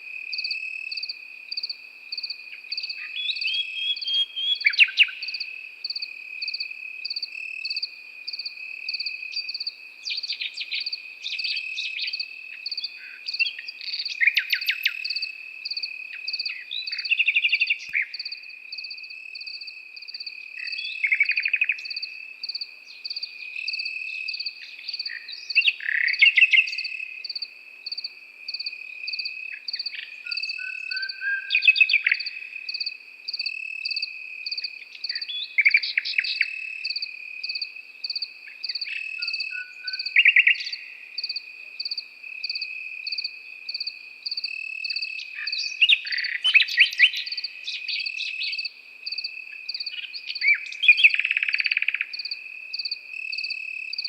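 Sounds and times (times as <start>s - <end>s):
crickets chirping: 0.0s - 54.0s
nightingale singing trills: 0.0s - 54.0s
high insect trill: 4.6s - 54.0s.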